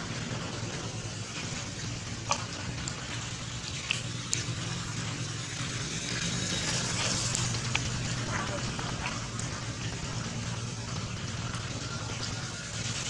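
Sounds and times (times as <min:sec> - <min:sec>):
low steady hum: 0:00.0 - 0:13.0
rain on stream water: 0:00.0 - 0:13.0.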